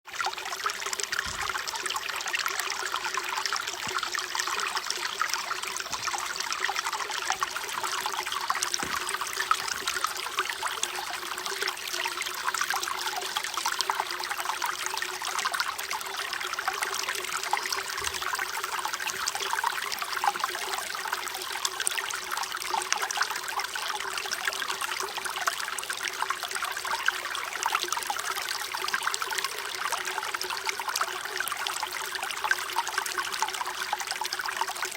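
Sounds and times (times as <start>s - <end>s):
water trickling: 0.1s - 34.9s.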